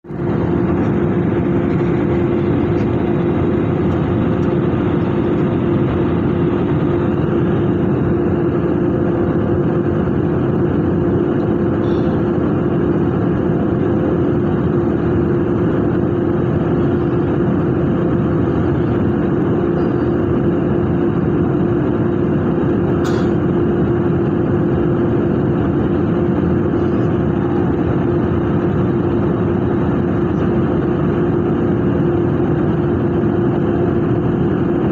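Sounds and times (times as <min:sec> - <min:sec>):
jet engine and airflow noise: 0:00.0 - 0:34.9
mid-pitched cabin hum: 0:00.1 - 0:34.9.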